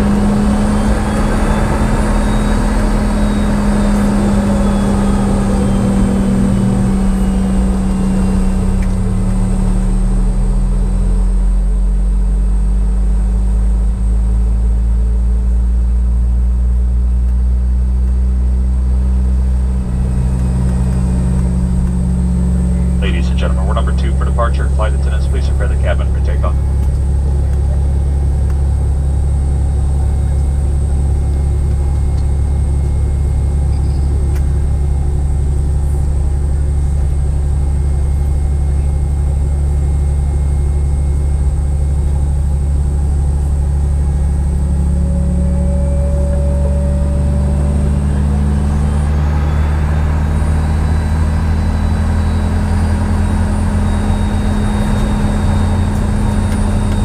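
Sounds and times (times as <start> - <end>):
jet engine drone: 0.0 - 14.9, 18.4 - 57.0
jet engine whine: 0.0 - 57.0.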